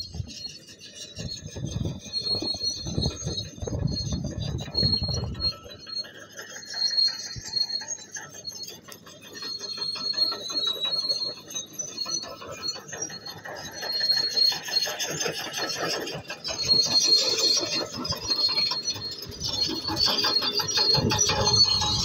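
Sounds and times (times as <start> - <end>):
high-pitched squeal: 0.0 - 22.0
steel tracks clattering: 0.0 - 22.0.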